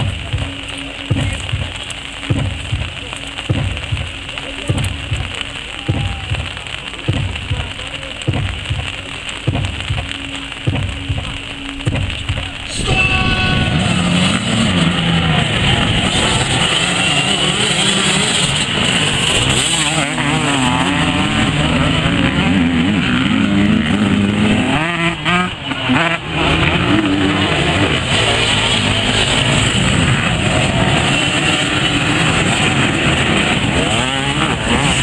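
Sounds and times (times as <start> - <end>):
motorcycle engines revving: 0.0 - 35.0.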